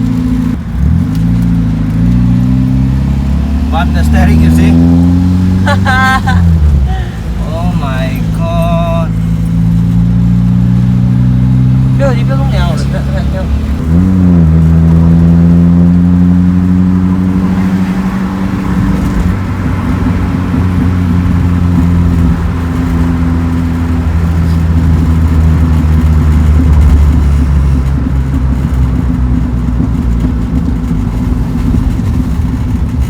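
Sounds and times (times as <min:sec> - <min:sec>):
car engine exhaust drone: 0:00.0 - 0:33.0.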